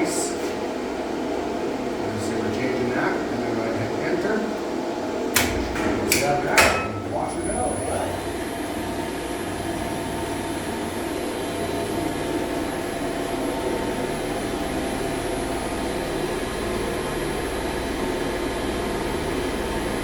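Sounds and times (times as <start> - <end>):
elevator motor humming and whirring: 0.7 - 20.0.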